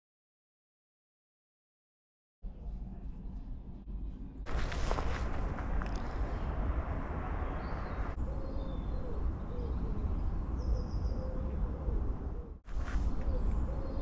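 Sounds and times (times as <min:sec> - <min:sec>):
steady low rumble: 0:02.5 - 0:13.8.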